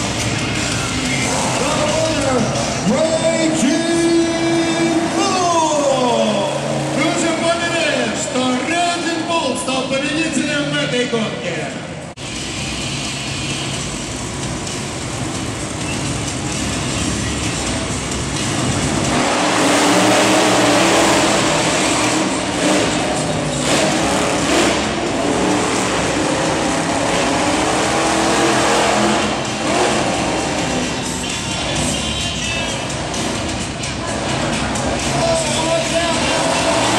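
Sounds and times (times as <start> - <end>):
truck engines revving high: 0.0 - 36.9.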